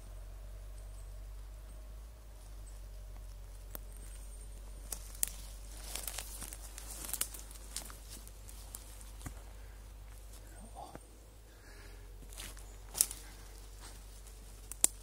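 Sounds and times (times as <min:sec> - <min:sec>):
footsteps on twigs and dry leaves: 0:01.3 - 0:15.0.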